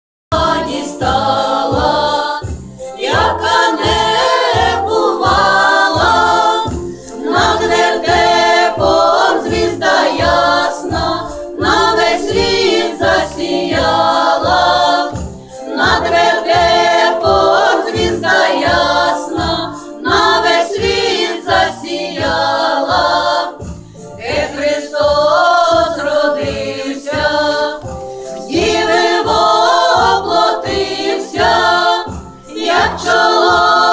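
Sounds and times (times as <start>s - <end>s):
accompaniment with steady low beat: 0.3s - 33.9s
group singing a carol: 0.3s - 33.9s.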